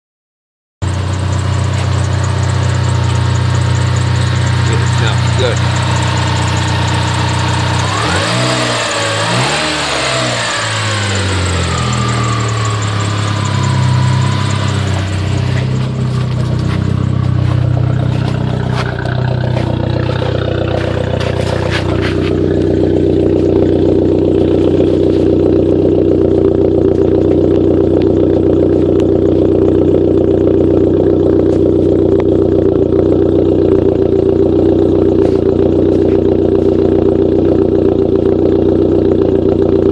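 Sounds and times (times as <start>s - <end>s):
car engine revving: 0.8s - 39.9s
exhaust pops: 0.8s - 39.9s.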